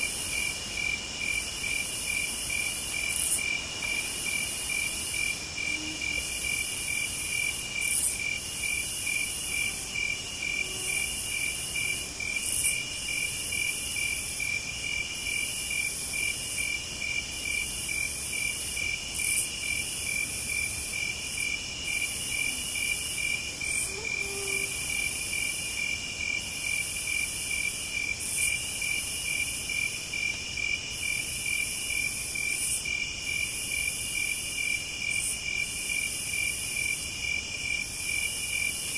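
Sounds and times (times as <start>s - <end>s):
high hissing insect chirr: 0.0s - 38.9s
insects chirping in pulses: 0.0s - 38.9s.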